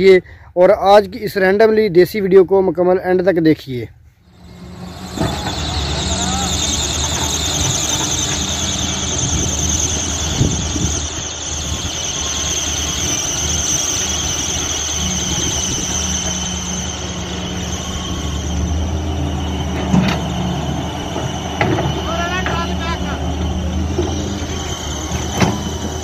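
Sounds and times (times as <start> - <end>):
diesel engine running: 4.2 - 26.0
high-pitched squeal: 4.2 - 26.0.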